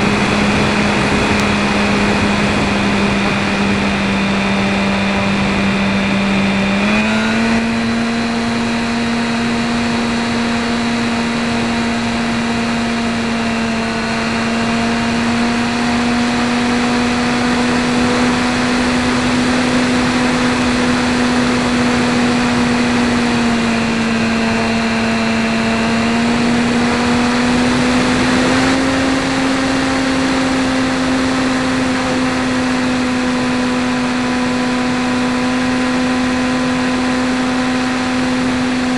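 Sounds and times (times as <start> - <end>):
electric motor and propeller hum: 0.0 - 38.9
wind noise: 0.0 - 38.9.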